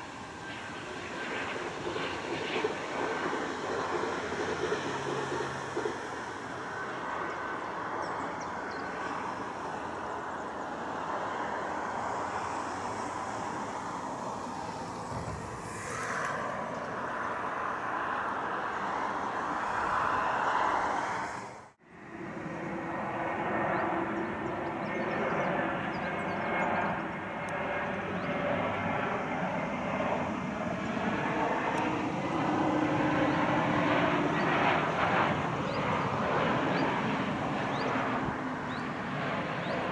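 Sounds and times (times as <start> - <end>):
jet engines landing: 0.0 - 39.9
jet engines on approach: 0.0 - 39.9.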